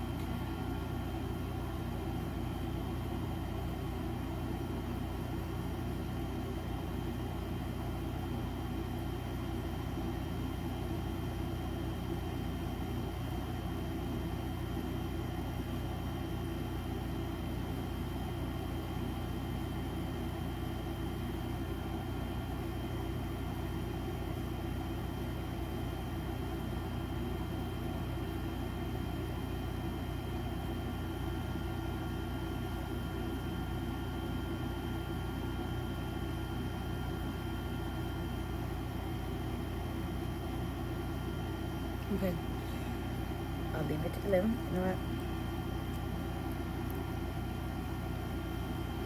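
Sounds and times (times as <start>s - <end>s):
electric fan humming: 0.0s - 49.0s.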